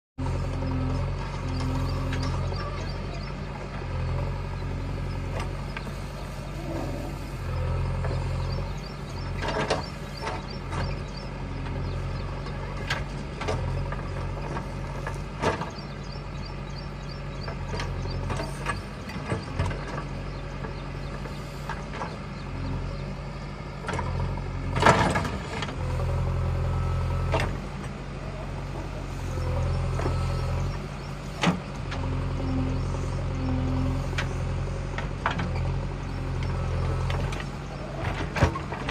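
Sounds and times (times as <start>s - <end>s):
backhoe diesel engine running: 0.2s - 38.9s.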